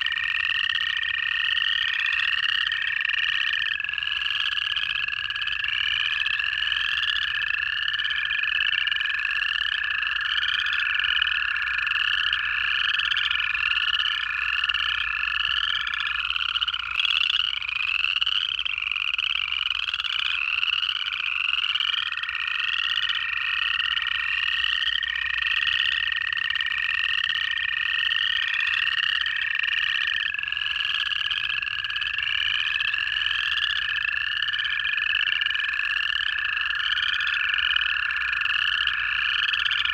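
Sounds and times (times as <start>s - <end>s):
chorus frogs trilling: 0.0s - 39.9s
toads long steady trills: 0.0s - 39.9s.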